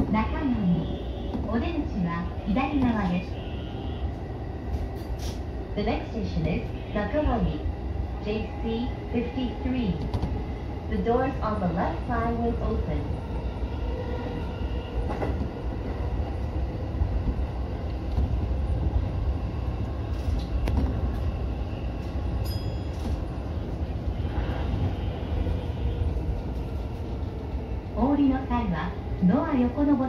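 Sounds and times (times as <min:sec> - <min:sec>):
train wheels rumbling on track: 0:04.0 - 0:30.0.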